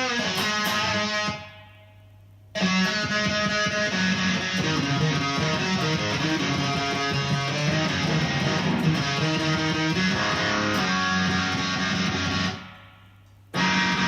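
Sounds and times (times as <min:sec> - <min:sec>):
electric guitar playing: 0:00.0 - 0:14.0
low amplifier hum: 0:00.0 - 0:14.0.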